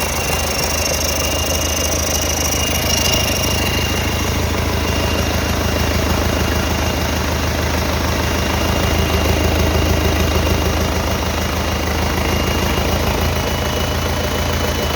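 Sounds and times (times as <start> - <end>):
diesel engine running: 0.0 - 14.9
thin steady high whine: 0.0 - 14.9.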